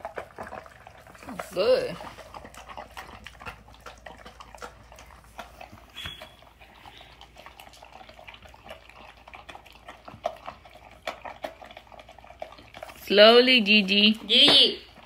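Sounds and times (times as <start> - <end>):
food clicking against bowls: 0.0 - 13.1
dogs crunching dry kibble: 0.0 - 15.0.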